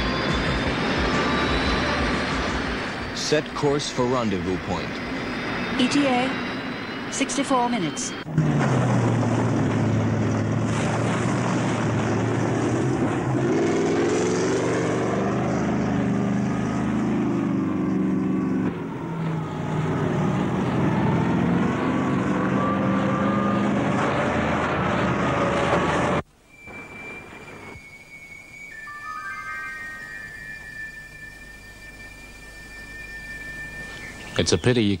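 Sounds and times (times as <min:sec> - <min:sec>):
faint rising whine: 0:00.0 - 0:35.0
heavy engine drone: 0:00.0 - 0:35.0.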